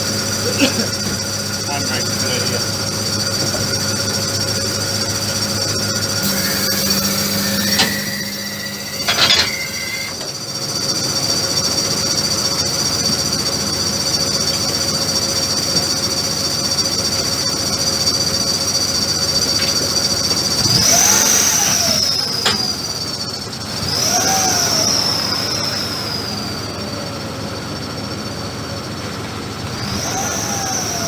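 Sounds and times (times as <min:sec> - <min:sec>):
power tool whining: 0:00.0 - 0:31.0.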